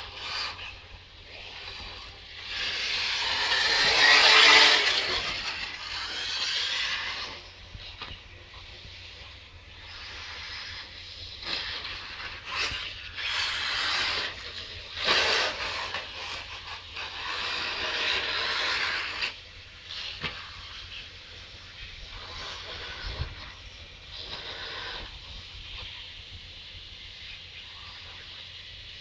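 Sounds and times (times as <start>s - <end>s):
rc car motor whirring: 0.0s - 29.0s.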